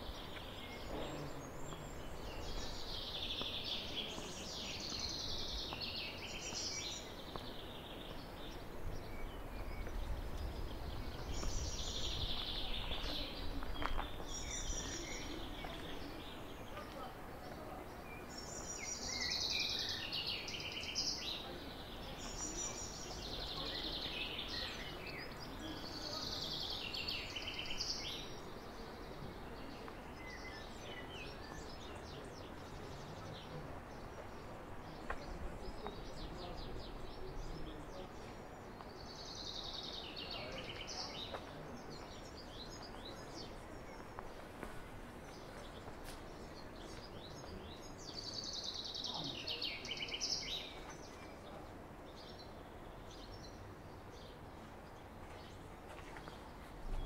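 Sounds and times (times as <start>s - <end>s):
outdoor background noise: 0.0s - 57.0s
songbird singing: 0.0s - 57.0s.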